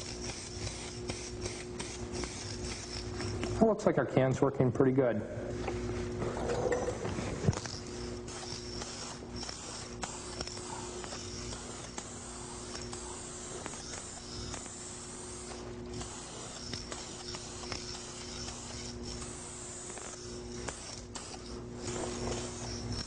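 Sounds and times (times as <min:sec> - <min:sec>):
spray paint can hissing: 0:00.0 - 0:03.3, 0:07.5 - 0:23.0.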